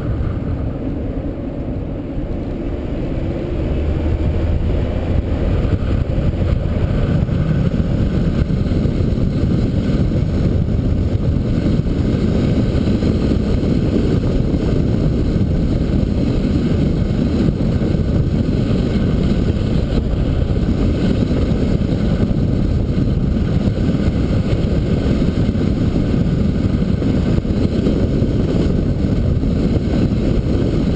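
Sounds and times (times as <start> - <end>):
car driving rumble: 0.0 - 30.9
road noise: 0.0 - 30.9
wind on microphone: 0.0 - 30.9.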